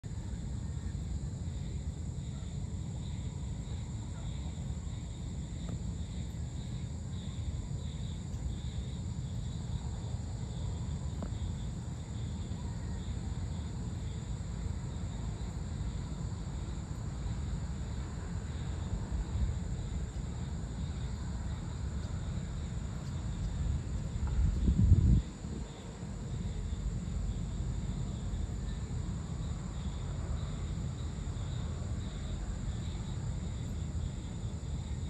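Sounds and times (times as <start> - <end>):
constant low rumble: 0.0 - 35.0
insects chirring: 0.1 - 35.0.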